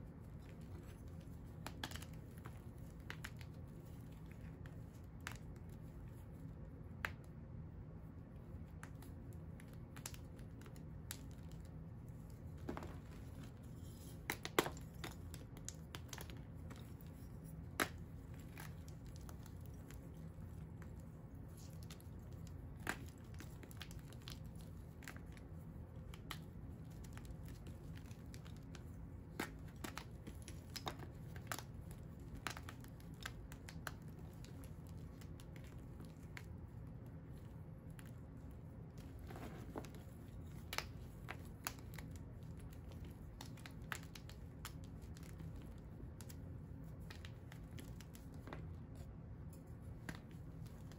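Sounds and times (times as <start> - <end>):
hands crushing dried blocks: 0.0 - 50.9
steady low hum: 0.0 - 50.9.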